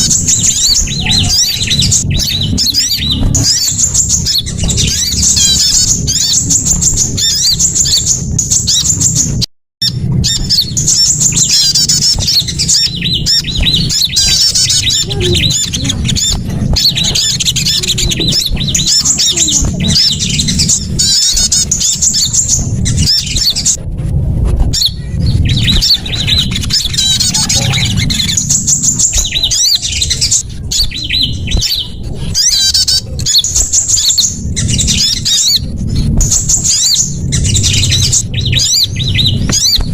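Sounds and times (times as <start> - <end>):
songbirds chirping and trilling: 0.0 - 39.9
steady low rumble: 0.0 - 39.9.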